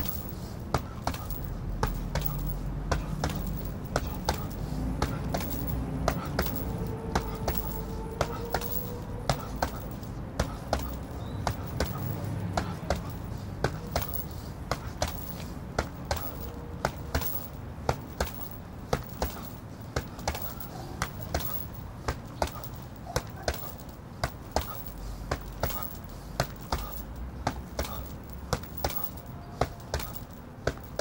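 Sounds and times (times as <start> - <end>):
boxing gloves punching heavy bag: 0.0 - 31.0
low background rumble: 0.0 - 31.0.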